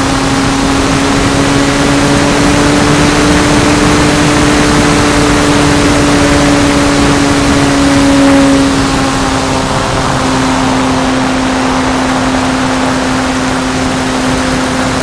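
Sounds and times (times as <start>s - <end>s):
electric motor and propeller: 0.0s - 15.0s
rush of wind: 0.0s - 15.0s.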